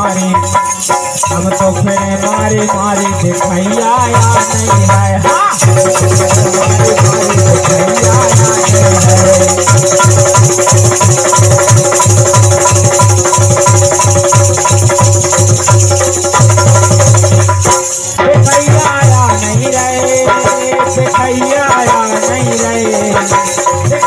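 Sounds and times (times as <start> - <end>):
hand drum fast rhythm: 0.0 - 24.0
jingle bar shaken: 0.0 - 24.0.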